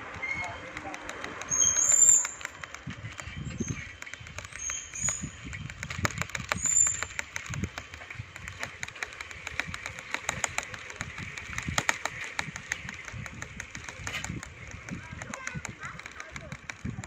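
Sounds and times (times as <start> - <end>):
bicycle clicking and rattling: 0.0 - 17.0
wind buffeting microphone: 0.0 - 17.0.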